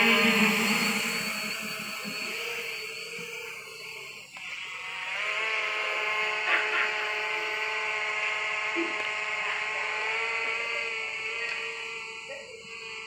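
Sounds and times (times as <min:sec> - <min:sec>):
drone buzzing whine: 0:00.0 - 0:13.0.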